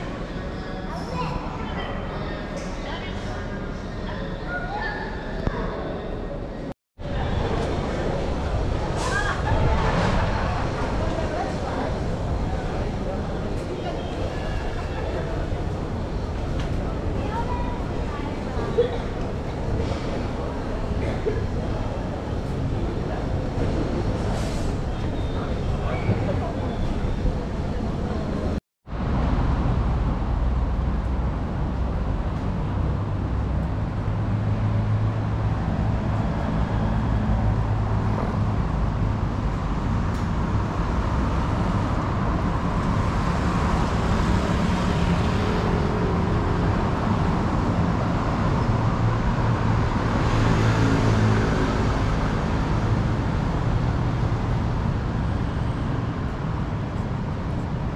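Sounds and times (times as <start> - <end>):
vehicles passing: 0.0 - 57.9.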